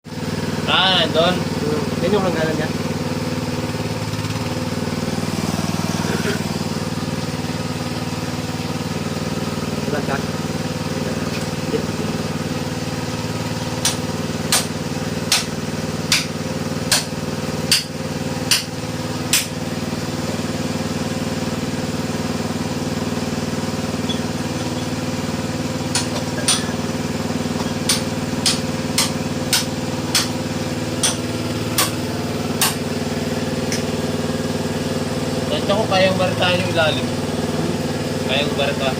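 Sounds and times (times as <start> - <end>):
small engine running: 0.1 - 38.9.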